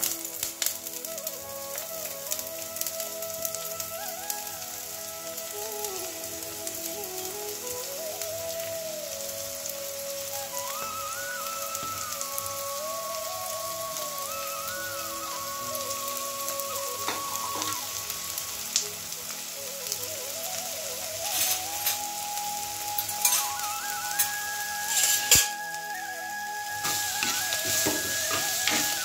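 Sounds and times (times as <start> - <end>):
onions sizzling in oil: 0.0 - 29.0
soft melody: 0.0 - 29.0.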